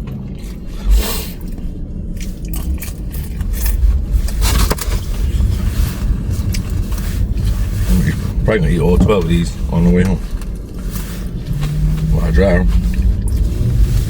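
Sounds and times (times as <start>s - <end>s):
road rumble inside car: 0.0s - 14.0s
scraping rustling noises: 0.1s - 14.0s.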